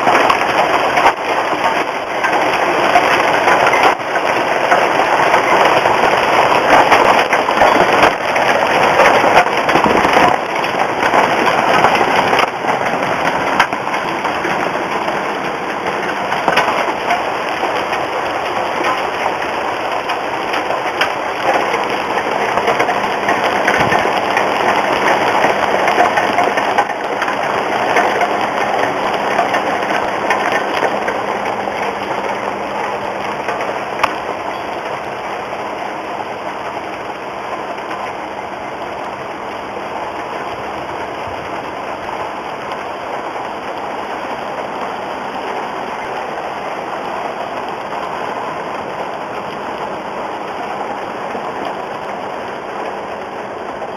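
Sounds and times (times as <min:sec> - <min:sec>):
hailstones ticking: 0:00.0 - 0:53.9
rain hissing: 0:00.0 - 0:53.9.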